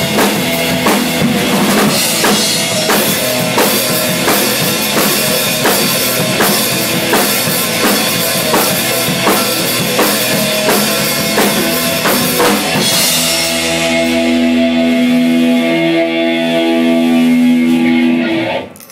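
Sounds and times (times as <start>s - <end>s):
drum kit beat: 0.0s - 18.5s
rock music: 0.0s - 18.8s.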